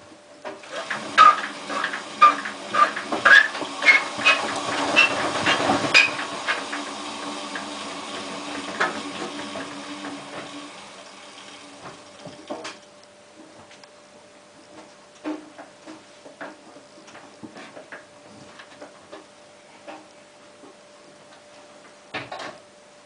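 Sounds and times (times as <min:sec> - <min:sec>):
washing machine low hum: 0:00.0 - 0:23.0.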